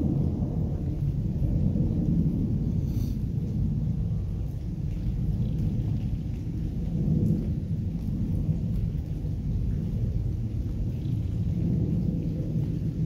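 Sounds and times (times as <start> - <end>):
deep steady rumble: 0.0 - 13.0
steady rain falling: 0.0 - 13.0.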